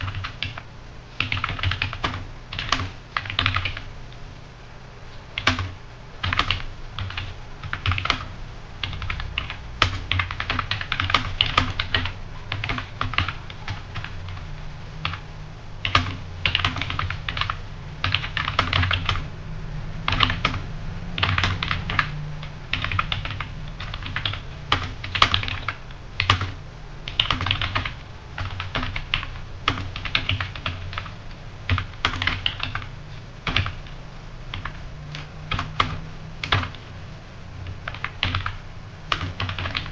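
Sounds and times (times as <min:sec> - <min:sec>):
keyboard typing: 0:00.0 - 0:00.6, 0:01.2 - 0:03.9, 0:05.4 - 0:15.2, 0:15.8 - 0:19.3, 0:20.0 - 0:20.6, 0:21.2 - 0:37.0, 0:37.6 - 0:39.9
low hum: 0:00.0 - 0:39.2.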